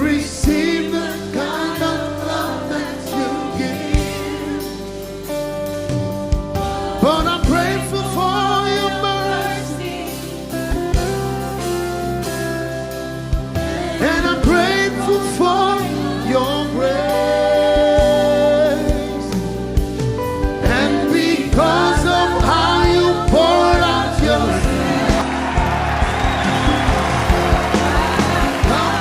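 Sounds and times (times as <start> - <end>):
gospel worship music: 0.0 - 29.0.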